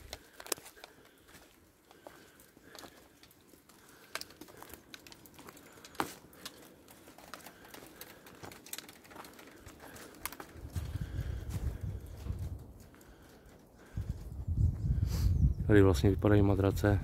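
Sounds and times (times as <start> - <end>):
footsteps through dry undergrowth: 0.0 - 14.4.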